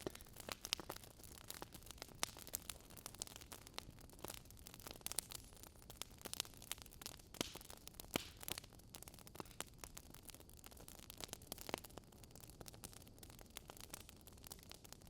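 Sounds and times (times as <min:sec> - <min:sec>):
soft steady hiss: 0:00.0 - 0:15.0
wood fire crackling: 0:00.0 - 0:15.0.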